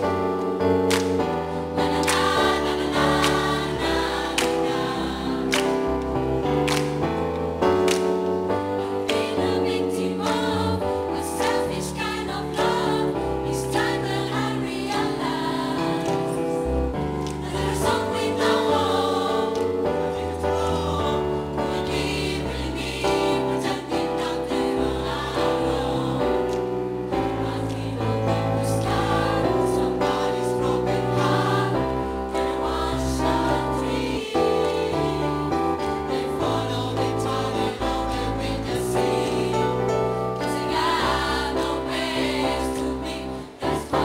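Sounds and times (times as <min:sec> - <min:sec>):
choir singing gospel song: 0:00.0 - 0:44.0.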